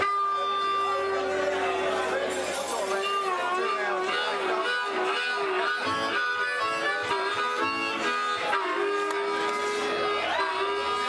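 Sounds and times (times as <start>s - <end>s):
blues-rock guitar and harmonica: 0.0s - 11.0s.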